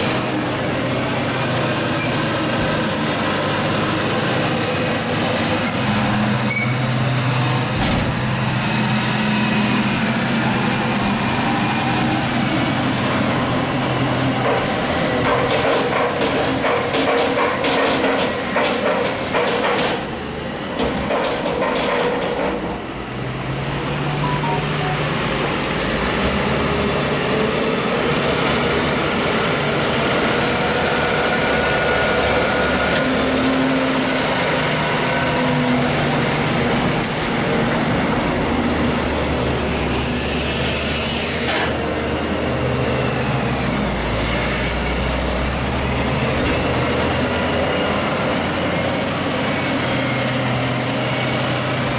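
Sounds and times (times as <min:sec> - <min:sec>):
tractor engines running: 0:00.0 - 0:51.9.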